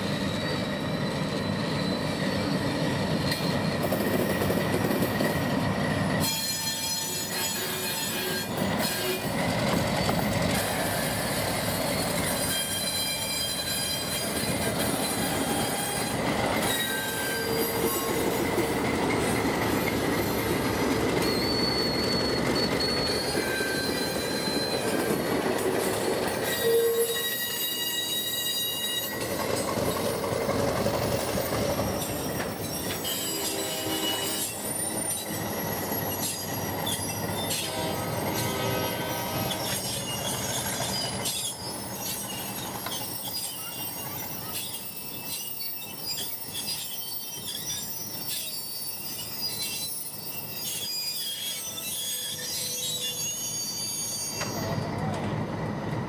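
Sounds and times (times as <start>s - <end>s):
train cars rumbling on rails: 0.0s - 56.0s
wheels squealing against rails: 0.0s - 56.0s.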